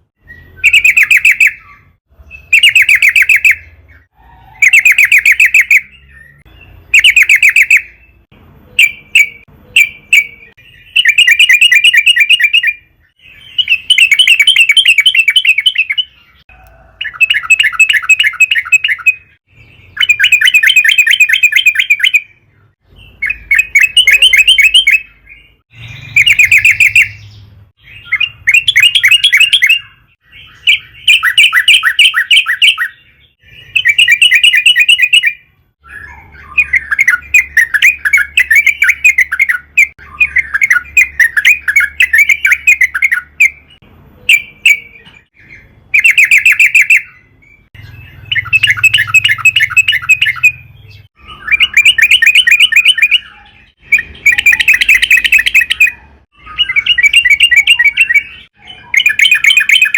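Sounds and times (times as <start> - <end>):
bulbul singing chattering notes: 0.0 - 59.9.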